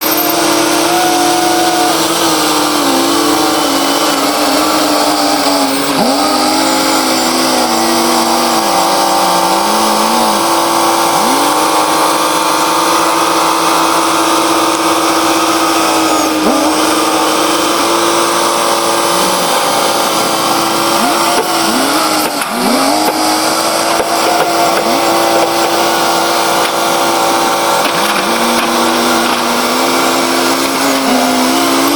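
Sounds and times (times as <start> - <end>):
bulldozer engine running: 0.0 - 31.9
high engine whine: 0.0 - 31.9.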